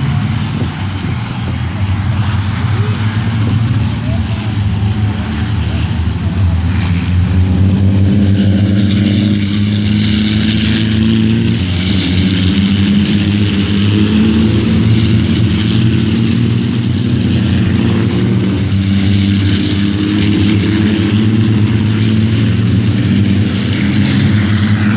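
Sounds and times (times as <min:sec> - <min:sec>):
truck diesel engine droning: 0:00.0 - 0:24.9.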